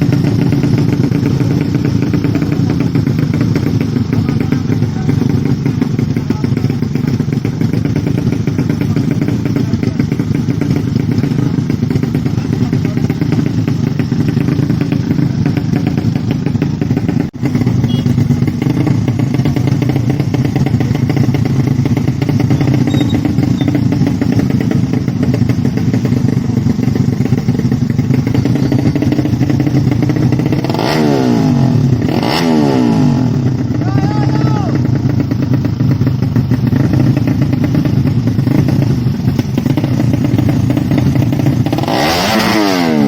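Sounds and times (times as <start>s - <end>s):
motorcycle engines running: 0.0s - 43.0s.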